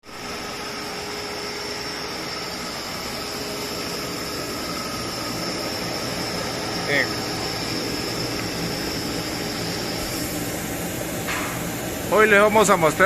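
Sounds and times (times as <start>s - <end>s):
air compressor running: 0.1s - 13.0s.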